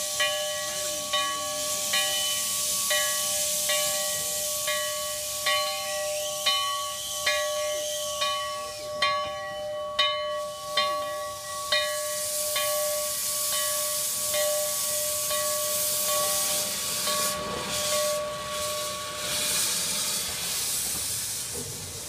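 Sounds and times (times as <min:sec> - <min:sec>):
steam locomotive bell ringing: 0:00.0 - 0:21.6
steam hissing: 0:00.0 - 0:22.0.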